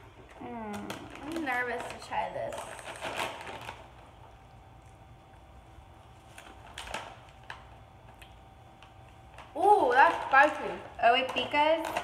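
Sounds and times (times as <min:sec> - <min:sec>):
faint steady hum: 0:00.0 - 0:12.0
cracker crunching: 0:00.1 - 0:12.0.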